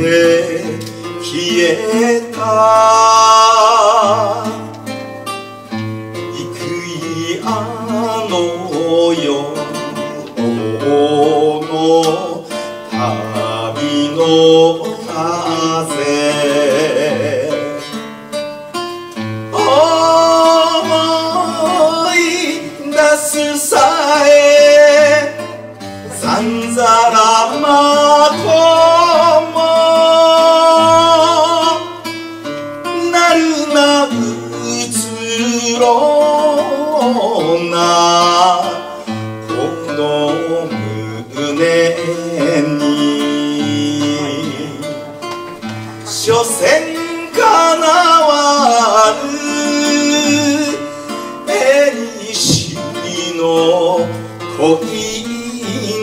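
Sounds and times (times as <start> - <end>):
man singing with vibrato: 0.0 - 56.0
plucked classical guitar: 0.0 - 56.0.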